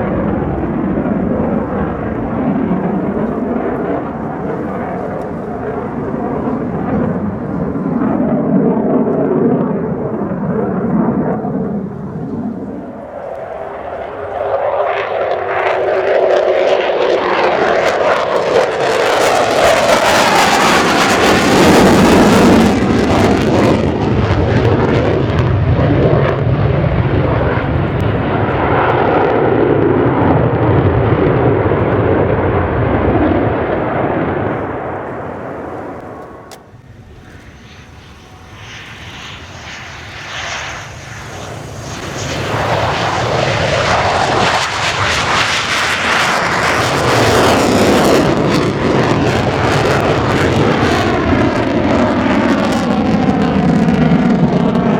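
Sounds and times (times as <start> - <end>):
jet fighter flying by: 0.0 - 54.9.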